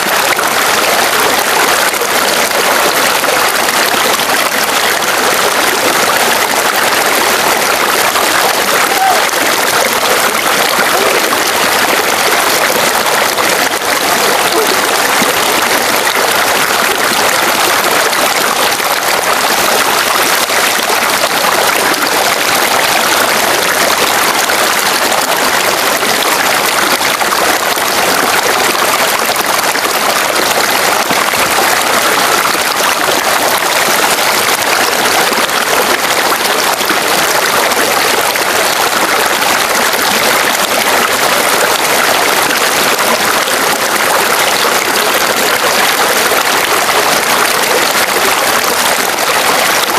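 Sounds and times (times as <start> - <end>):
water spouts splashing into pool: 0.0 - 49.9.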